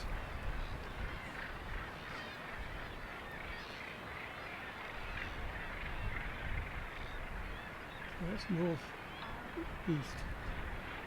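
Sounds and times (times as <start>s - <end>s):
seabird colony chatter: 0.0s - 11.0s.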